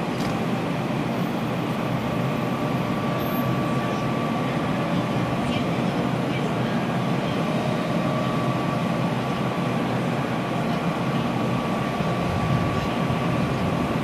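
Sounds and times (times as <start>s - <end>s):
electric locomotive humming: 0.0s - 14.0s.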